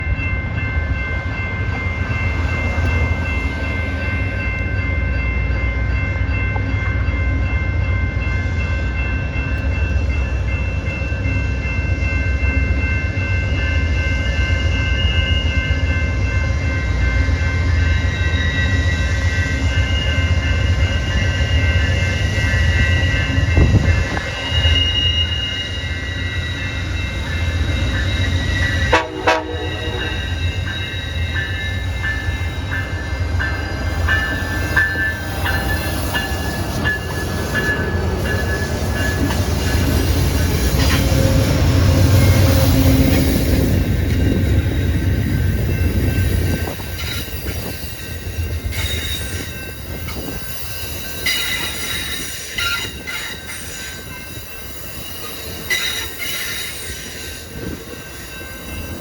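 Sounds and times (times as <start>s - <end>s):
train low rumble: 0.0s - 59.0s
high steady tones: 9.8s - 59.0s.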